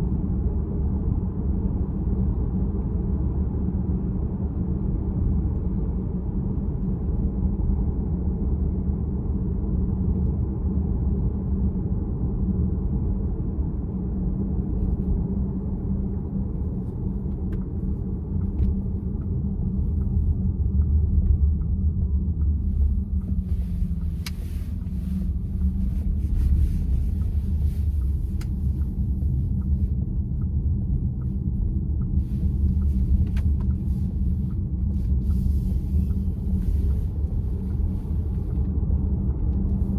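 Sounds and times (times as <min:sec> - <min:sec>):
road and tyre rumble in car: 0:00.0 - 0:39.9.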